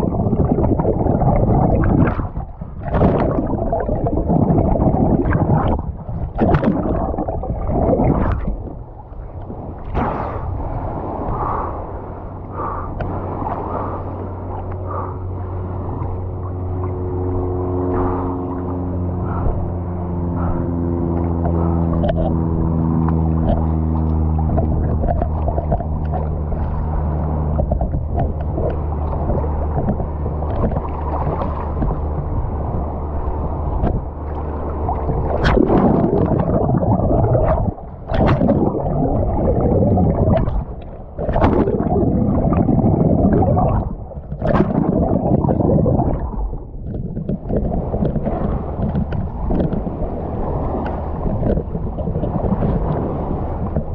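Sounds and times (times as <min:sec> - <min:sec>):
boat motor humming: 0:00.0 - 0:53.9
water sloshing and gurgling: 0:00.0 - 0:53.9.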